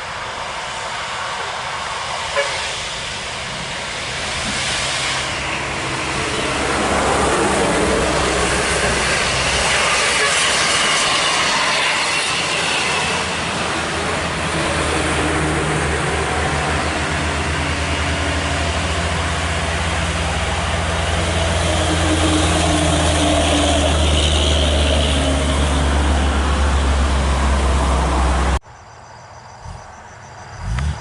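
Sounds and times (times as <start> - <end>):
heavy vehicle engine droning: 0.0 - 28.6
road noise: 0.0 - 31.0.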